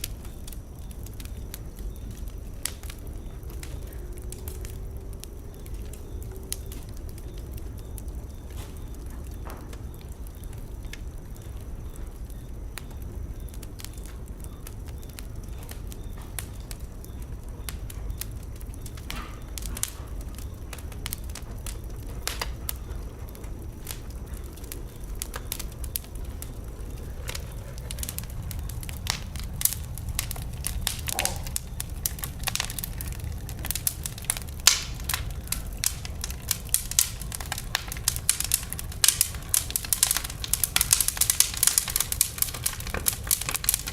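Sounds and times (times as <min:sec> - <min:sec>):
fire crackling and popping: 0:00.0 - 0:43.9
fire low rumble: 0:00.0 - 0:43.9.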